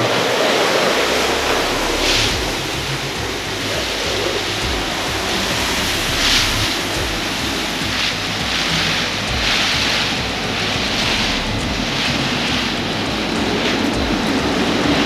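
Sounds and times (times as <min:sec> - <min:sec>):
heavy rain: 0:00.0 - 0:15.0
storm wind: 0:00.0 - 0:15.0
wind buffeting microphone: 0:00.0 - 0:15.0.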